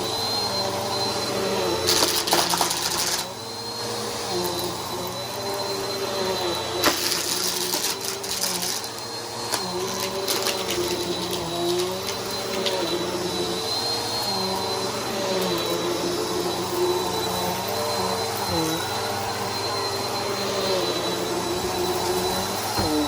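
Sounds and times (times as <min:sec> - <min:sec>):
upright vacuum running: 0:00.0 - 0:23.0.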